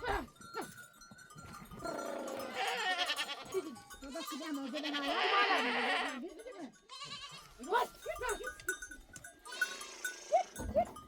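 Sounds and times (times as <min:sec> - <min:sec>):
goats and sheep bleating: 0:00.0 - 0:00.8, 0:01.6 - 0:08.4, 0:09.3 - 0:11.0.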